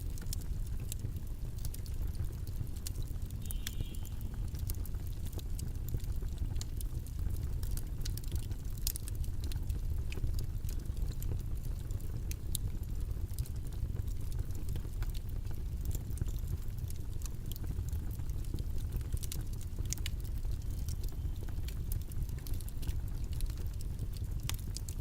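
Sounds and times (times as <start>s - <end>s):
low rumbling white noise: 0.0s - 25.0s.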